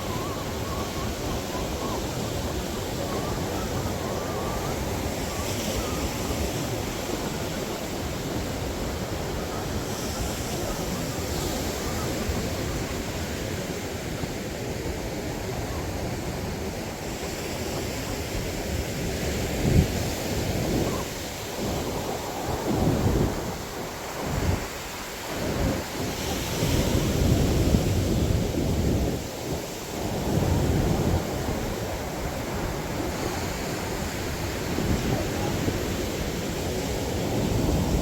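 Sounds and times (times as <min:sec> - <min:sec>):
surf washing on beach: 0:00.0 - 0:38.0
wind buffeting microphone: 0:00.0 - 0:38.0.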